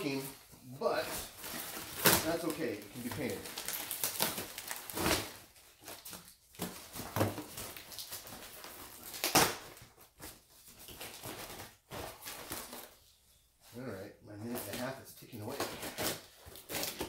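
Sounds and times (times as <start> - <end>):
packaging rustling: 0.0 - 13.0, 14.4 - 17.0.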